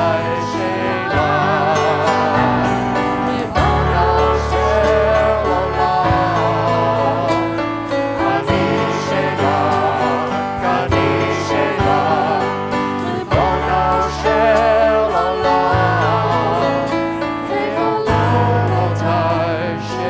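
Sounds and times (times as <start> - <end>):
instrumental accompaniment: 0.0 - 20.0
voices singing: 0.0 - 20.0.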